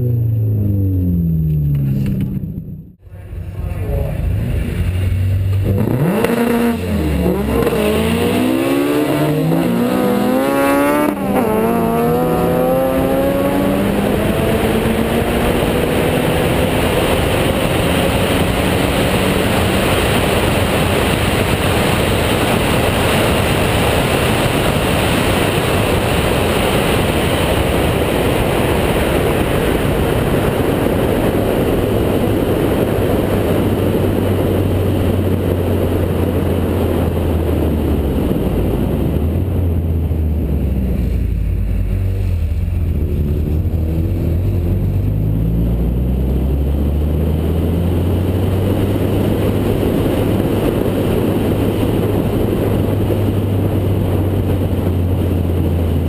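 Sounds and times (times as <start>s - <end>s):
car engine: 0.0s - 56.0s
wind and road noise rushing: 0.0s - 56.0s.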